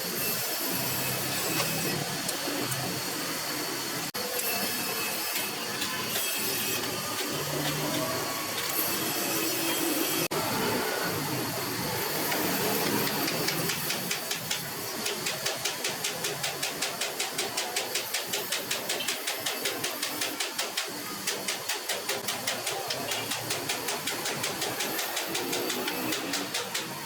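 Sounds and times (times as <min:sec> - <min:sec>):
workshop machine hissing and beating: 0:00.0 - 0:27.0.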